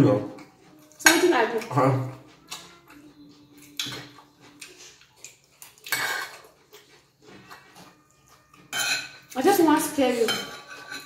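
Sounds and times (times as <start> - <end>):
cutlery scraping on ceramic plates: 0.4 - 11.0.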